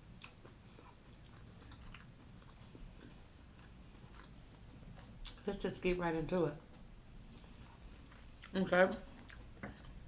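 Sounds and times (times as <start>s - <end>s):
person chewing food: 0.1s - 5.4s, 6.7s - 10.0s.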